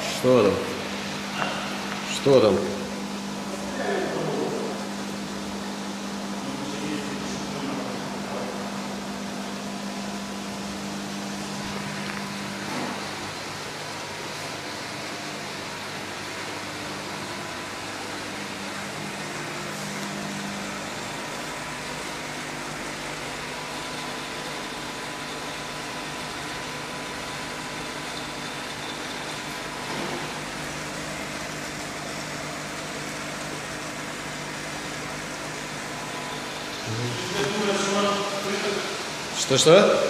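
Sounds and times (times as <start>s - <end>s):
aquarium equipment humming: 0.0s - 40.0s.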